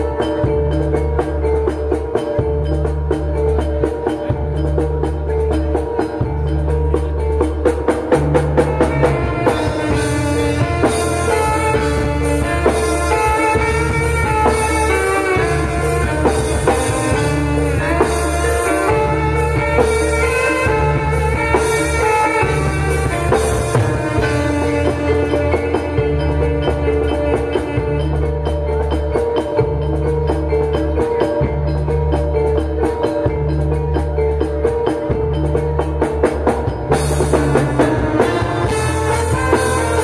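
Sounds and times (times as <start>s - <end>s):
gamelan music: 0.0s - 40.0s
hand drum: 0.0s - 40.0s
heavy bass line: 0.0s - 40.0s
metallophones struck with mallets: 0.0s - 40.0s.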